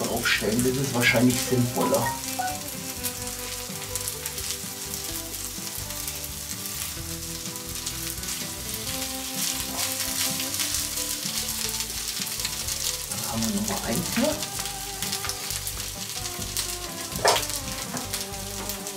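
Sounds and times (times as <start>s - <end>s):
rice sizzling in pan: 0.0s - 18.9s.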